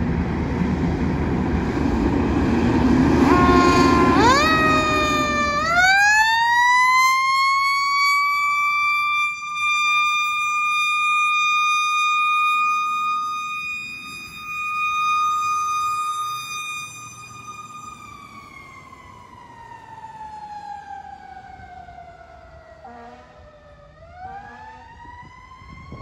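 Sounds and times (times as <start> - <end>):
fire truck siren wailing: 1.2 - 26.0.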